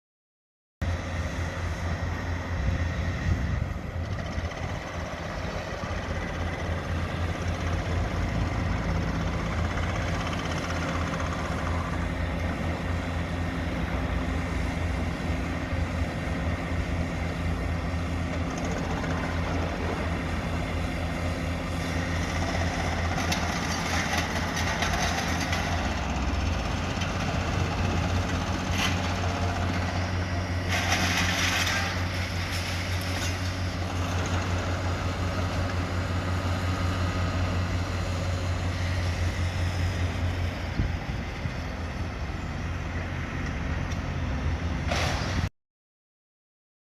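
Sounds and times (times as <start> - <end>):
diesel engine rumbling: 0.8 - 45.5.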